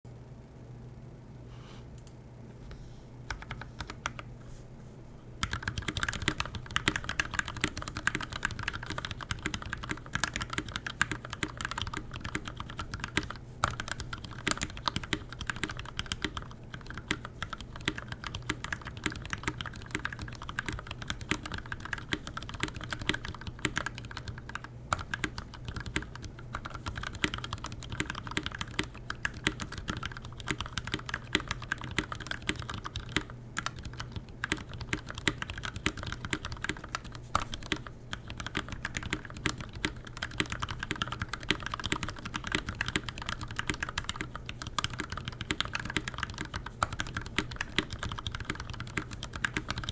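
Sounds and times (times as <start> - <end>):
fast typing on mechanical keyboard: 3.3 - 4.3, 5.4 - 49.9.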